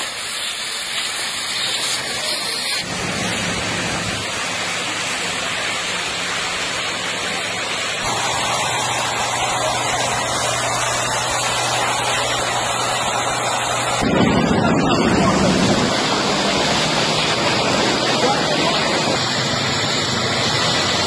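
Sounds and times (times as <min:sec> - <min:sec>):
water jets hissing from hoses: 0:00.0 - 0:21.0.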